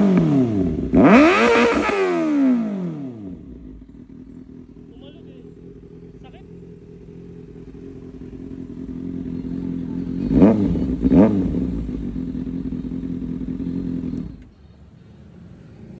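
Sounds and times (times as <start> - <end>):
motorcycle engine idling: 0.0 - 16.0
motorcycle engine revving: 0.0 - 16.0.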